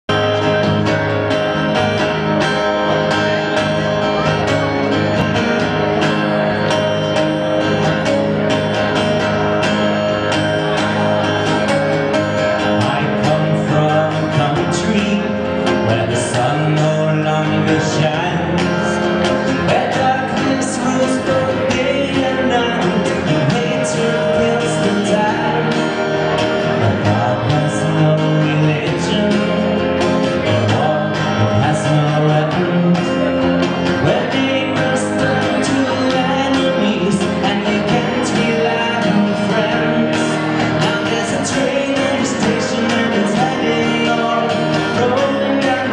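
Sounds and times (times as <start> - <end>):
acoustic guitar strumming: 0.0 - 45.9
man singing: 8.9 - 45.9.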